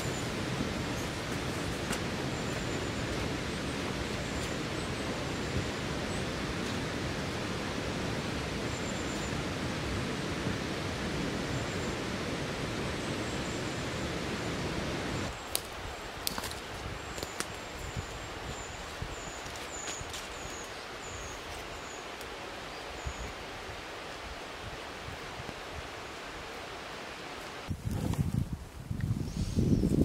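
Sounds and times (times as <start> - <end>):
river rushing over rocks: 0.0 - 27.7.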